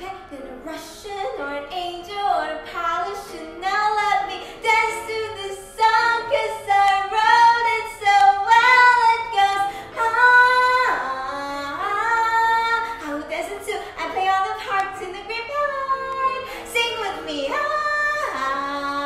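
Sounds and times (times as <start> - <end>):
girl singing: 0.0 - 19.0.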